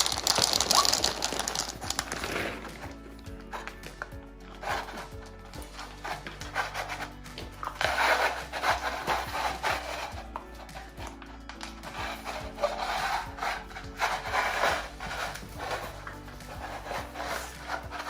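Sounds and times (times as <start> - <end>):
quiet background music: 0.0 - 18.0
rubbing or scraping strokes: 0.0 - 18.0.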